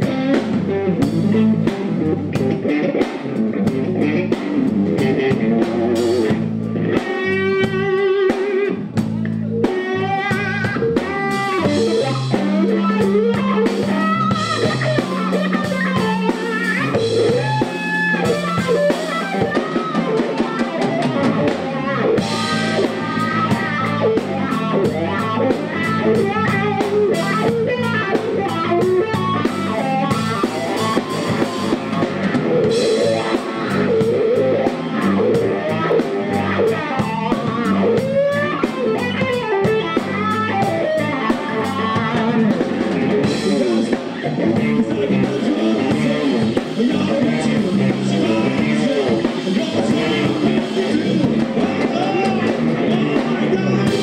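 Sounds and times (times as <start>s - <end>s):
drum kit with cymbal hits: 0.0s - 54.0s
electric guitar: 0.0s - 54.0s
low bass notes: 0.0s - 54.0s.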